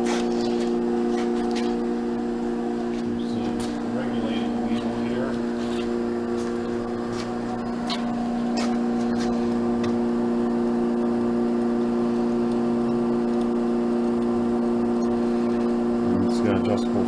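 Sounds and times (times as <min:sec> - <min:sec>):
hydraulic pump electric hum: 0:00.0 - 0:17.0.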